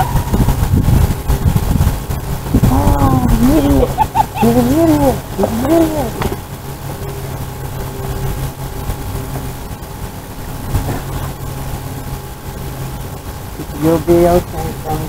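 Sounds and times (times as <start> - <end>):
low mechanical hum: 0.0 - 15.0
outdoor background noise: 0.0 - 15.0.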